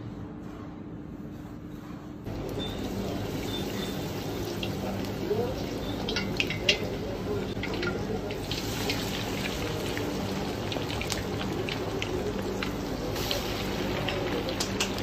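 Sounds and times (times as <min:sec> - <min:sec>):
oil sizzling with crackling pops: 0:02.3 - 0:15.0.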